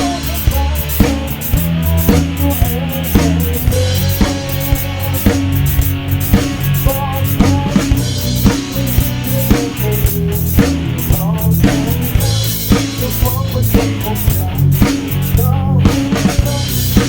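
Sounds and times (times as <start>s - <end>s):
drum kit beat: 0.0s - 17.0s
rock band playing instrumental: 0.0s - 17.0s.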